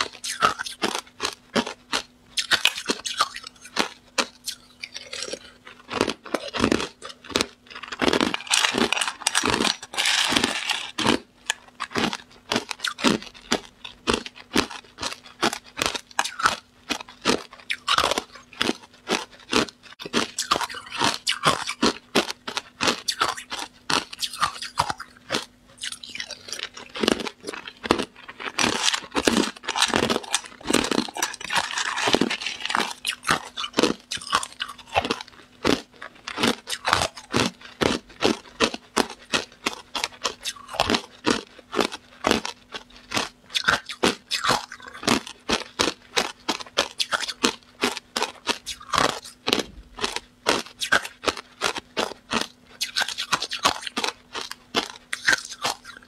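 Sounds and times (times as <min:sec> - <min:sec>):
ice cubes crunched and chewed: 0:00.0 - 0:56.0.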